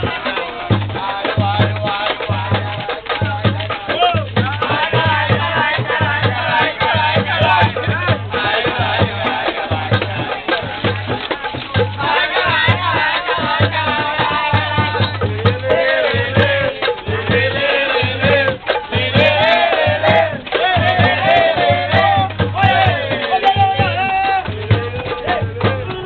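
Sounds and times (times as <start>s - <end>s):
group of people singing: 0.0s - 26.0s
hand percussion beating: 0.0s - 26.0s.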